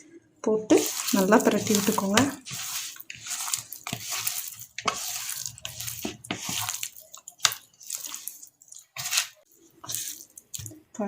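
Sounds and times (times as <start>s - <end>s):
hands squishing wet marinade: 0.7s - 11.0s.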